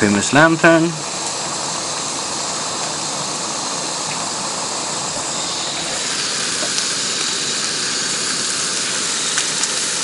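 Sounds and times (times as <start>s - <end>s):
lantern and stove burners hissing: 0.0s - 10.0s.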